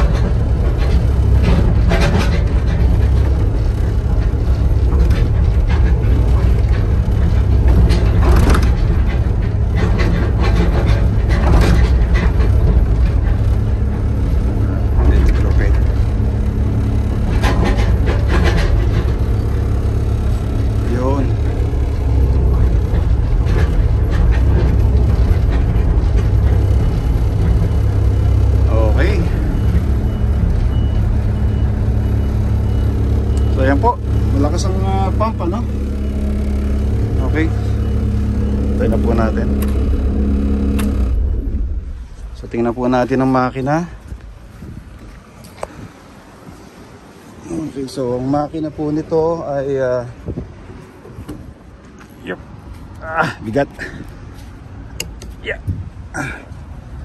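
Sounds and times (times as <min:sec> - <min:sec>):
diesel excavator engine running: 0:00.0 - 0:57.0.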